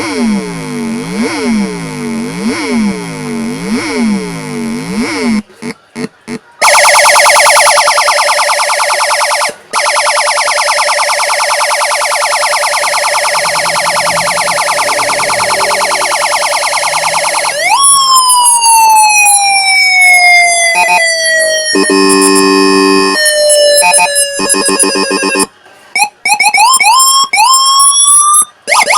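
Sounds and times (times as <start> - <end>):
electronic police siren: 0.0 - 5.4, 6.0 - 28.9.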